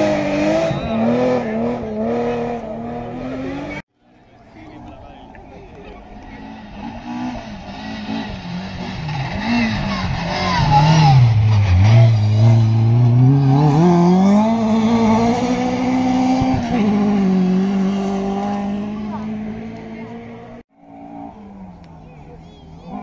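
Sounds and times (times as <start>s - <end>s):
rally car engine accelerating: 0.0s - 3.8s, 4.7s - 23.0s.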